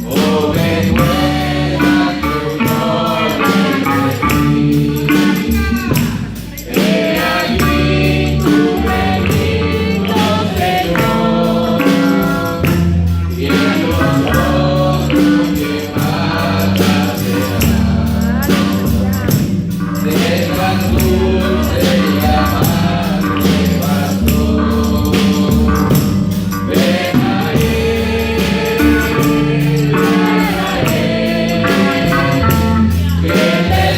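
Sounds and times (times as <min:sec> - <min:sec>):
band with bass and percussion: 0:00.0 - 0:33.9
men's choir singing a hymn: 0:00.0 - 0:33.9.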